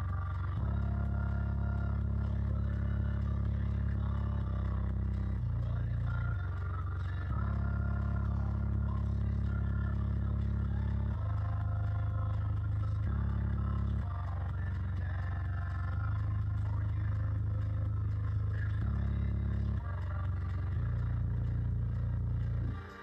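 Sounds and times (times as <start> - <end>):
subwoofer playing deep bass notes: 0.0 - 23.0.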